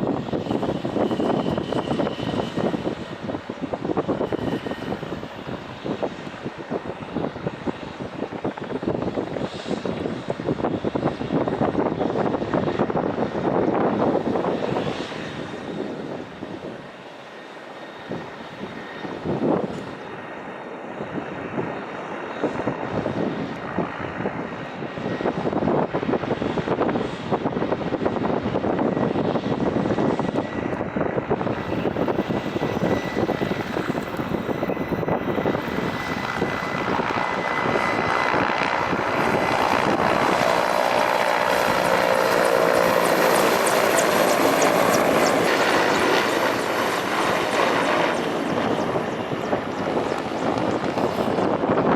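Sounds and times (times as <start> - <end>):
helicopter engines and rotors: 0.0 - 51.9.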